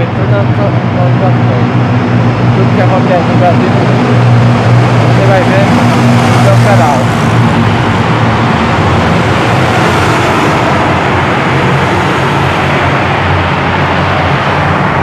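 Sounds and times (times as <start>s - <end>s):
low engine hum: 0.0s - 15.0s
rush of passing cars: 0.0s - 15.0s.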